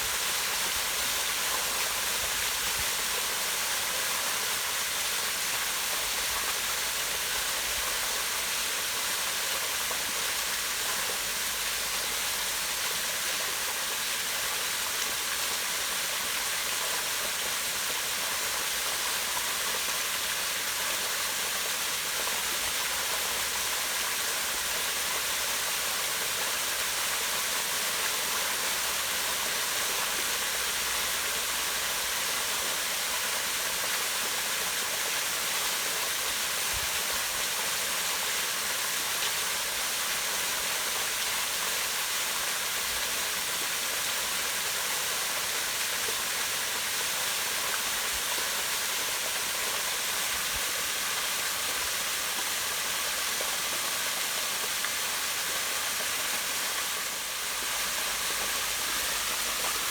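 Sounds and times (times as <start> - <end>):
waterfall splashing into pond: 0.0 - 59.9.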